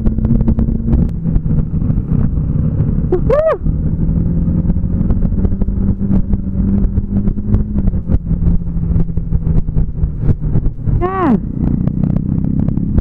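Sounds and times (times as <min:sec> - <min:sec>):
motorcycle engine running: 0:00.0 - 0:13.0
wind on microphone: 0:00.0 - 0:13.0.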